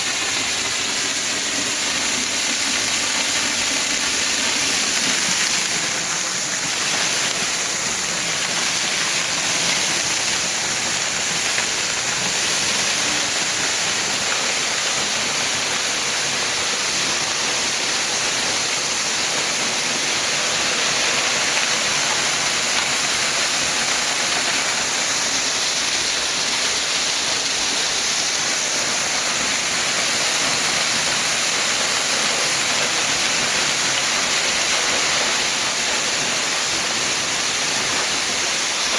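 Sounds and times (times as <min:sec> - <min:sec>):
waterfall crashing: 0:00.0 - 0:38.9.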